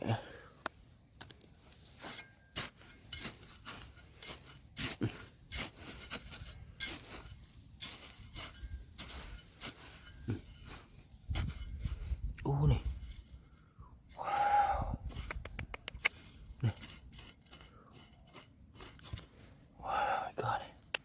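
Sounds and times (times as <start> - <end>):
digging scraping through gravel: 1.5 - 20.6.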